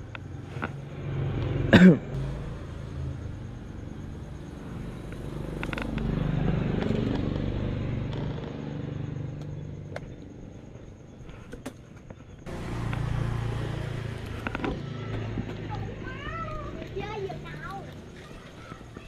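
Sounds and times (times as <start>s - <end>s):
vehicle engine running: 0.0s - 11.1s, 12.4s - 19.0s.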